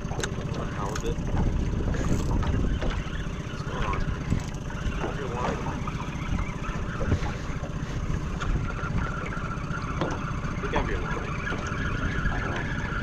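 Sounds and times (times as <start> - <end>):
faint wavering squeaks: 0.0 - 13.0
water sloshing around boat: 0.0 - 13.0
wind buffeting microphone: 0.0 - 13.0.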